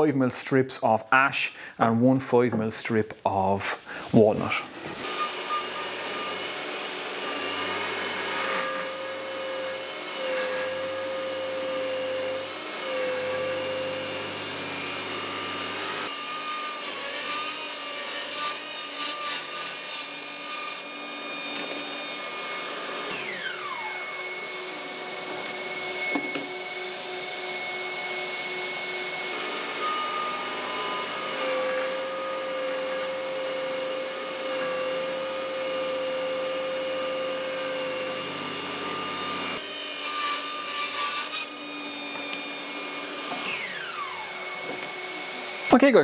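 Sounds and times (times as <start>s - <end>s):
saw cutting wood: 4.2s - 46.0s
table saw motor whining: 4.9s - 46.0s.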